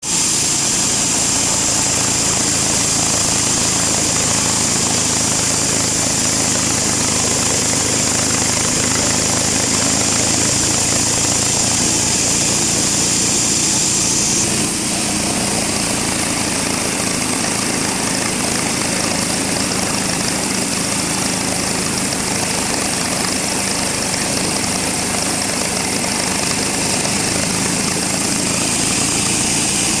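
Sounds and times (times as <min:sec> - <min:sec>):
sawmill machinery running: 0:00.0 - 0:30.0.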